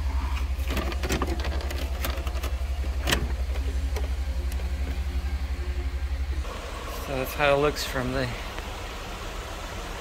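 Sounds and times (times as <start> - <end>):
low pulsing hum: 0.0 - 10.0.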